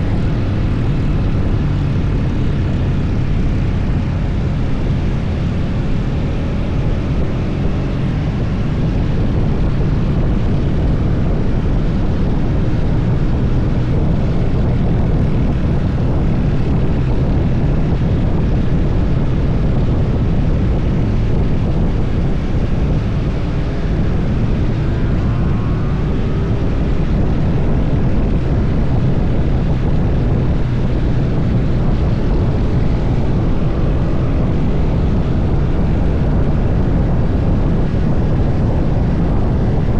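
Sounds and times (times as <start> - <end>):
motorcycle engine running: 0.0 - 39.9
wind rushing: 0.0 - 39.9.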